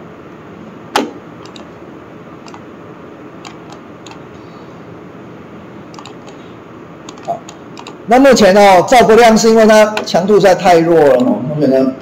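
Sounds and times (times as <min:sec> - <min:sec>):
microphone and room hiss: 0:00.0 - 0:12.0.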